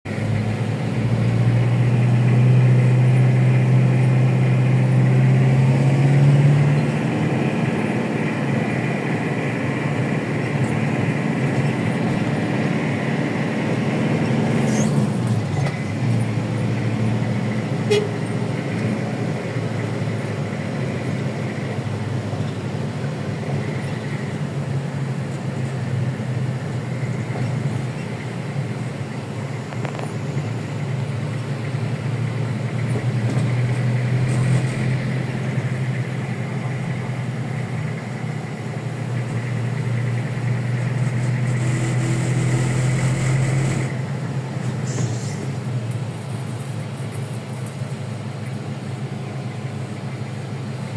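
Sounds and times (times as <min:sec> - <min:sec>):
car engine and road noise: 0:00.0 - 0:50.9.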